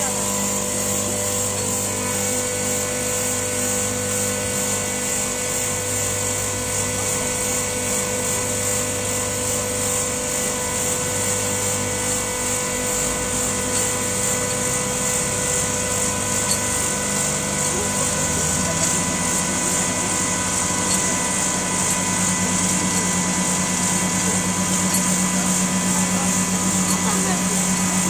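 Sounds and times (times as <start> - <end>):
cable hoist motor whining: 0.0 - 28.0.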